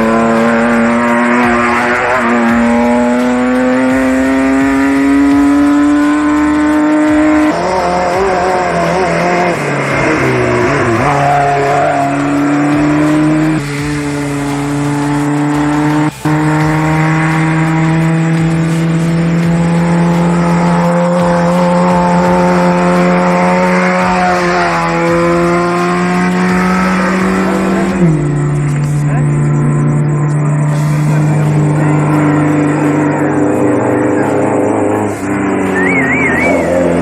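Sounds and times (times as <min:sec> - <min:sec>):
race vehicle engine running: 0:00.0 - 0:37.0.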